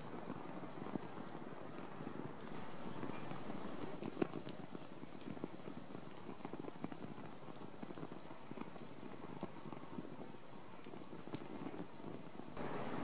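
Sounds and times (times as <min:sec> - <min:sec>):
fire crackling in wood stove: 0:00.0 - 0:13.0.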